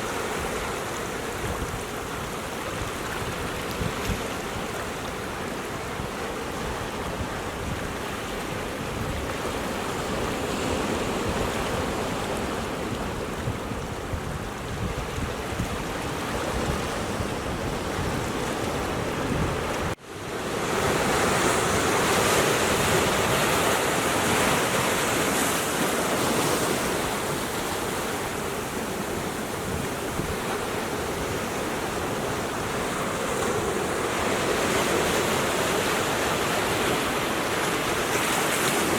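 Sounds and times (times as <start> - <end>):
surf breaking on rocky shore: 0.0 - 38.9.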